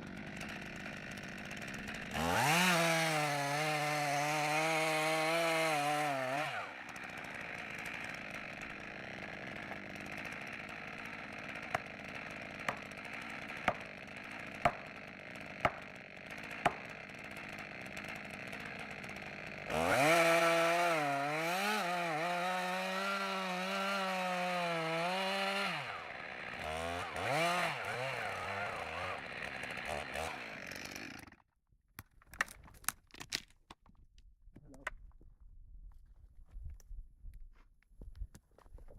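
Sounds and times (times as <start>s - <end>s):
chainsaw cutting: 0.0s - 31.4s.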